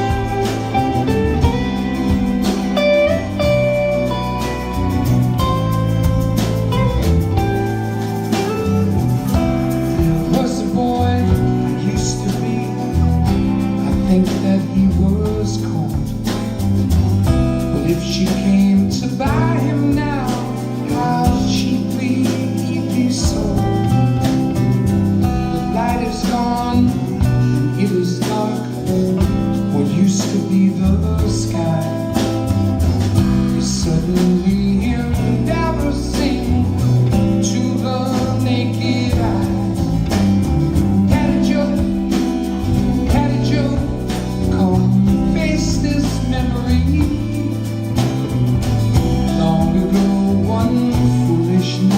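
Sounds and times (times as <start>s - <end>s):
band playing a song: 0.0s - 51.9s
guitar: 0.0s - 51.9s
person singing: 6.4s - 16.6s, 17.6s - 24.6s, 25.3s - 51.9s.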